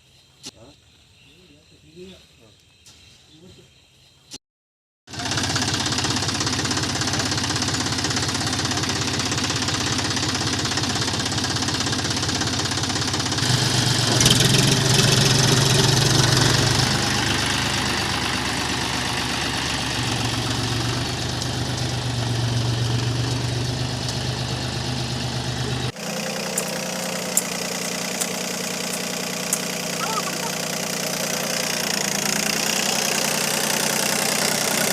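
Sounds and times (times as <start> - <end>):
tractor diesel engine chugging: 5.1 - 34.9.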